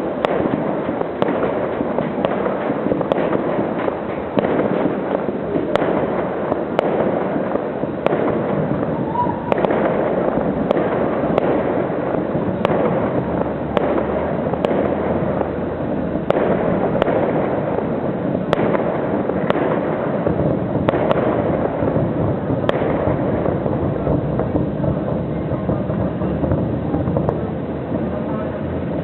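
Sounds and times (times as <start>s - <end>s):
fireworks explosions: 0.0s - 29.0s
sharp firework bangs: 0.0s - 29.0s.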